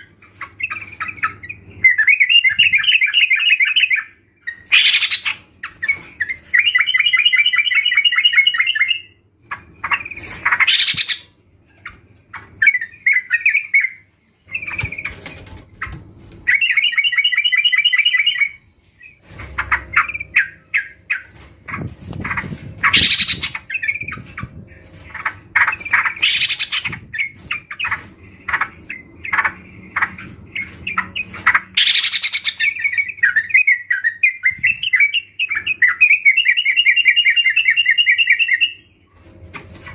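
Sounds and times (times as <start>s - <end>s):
bulbuls chattering and trilling: 0.0s - 37.9s.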